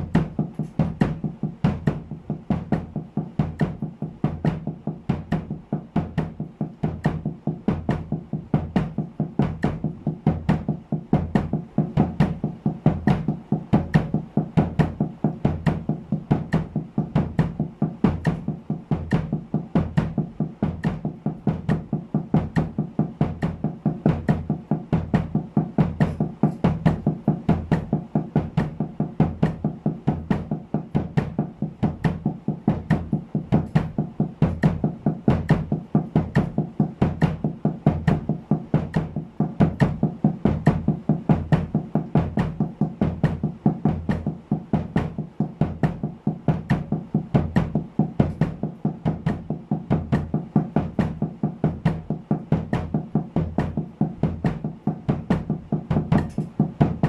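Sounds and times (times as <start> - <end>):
bass drum kicks: 0.0 - 57.0
damped snare drum strokes: 0.0 - 57.0.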